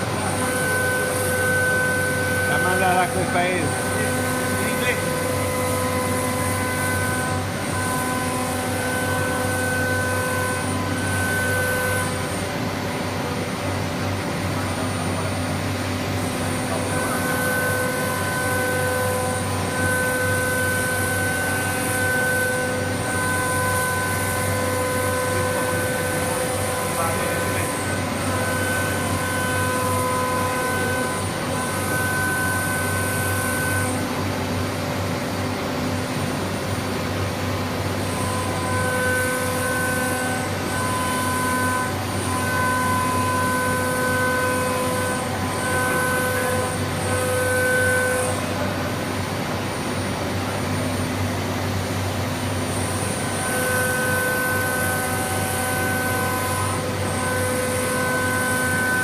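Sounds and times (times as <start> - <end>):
machine running: 0.0 - 59.0
router spindle whine: 0.0 - 59.0.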